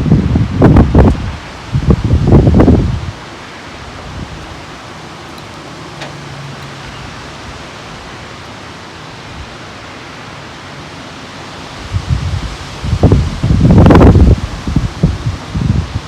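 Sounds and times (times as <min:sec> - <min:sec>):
strong wind through trees: 0:00.0 - 0:16.0.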